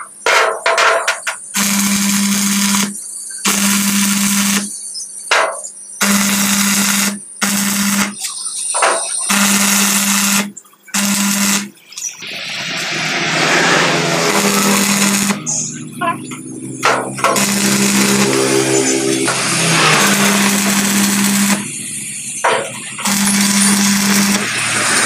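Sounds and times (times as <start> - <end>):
welding arc crackling sizzle: 0.0 - 25.0
welding machine low hum: 0.8 - 4.8, 6.0 - 8.2, 9.1 - 11.8, 12.5 - 25.0.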